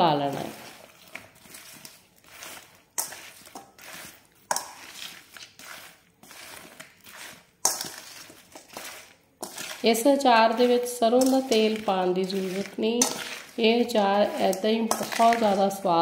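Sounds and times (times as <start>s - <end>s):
metal spoon scraping in steel bowl: 0.0s - 16.0s.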